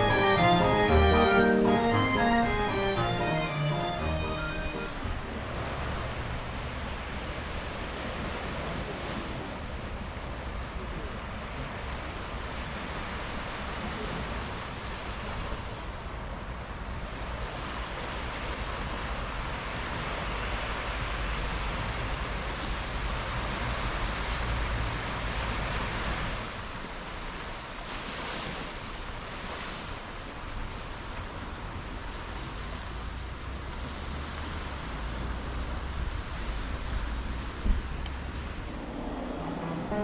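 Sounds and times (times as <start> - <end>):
sea waves washing on shore: 5.0 - 40.0.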